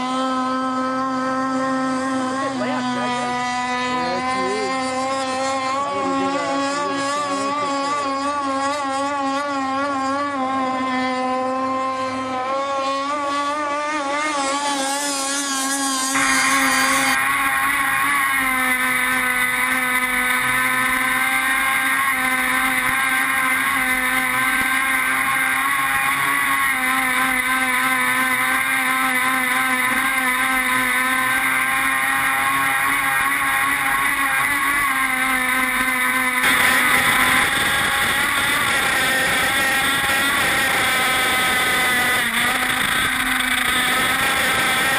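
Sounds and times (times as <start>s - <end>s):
small boat engine high revs: 0.0s - 44.9s.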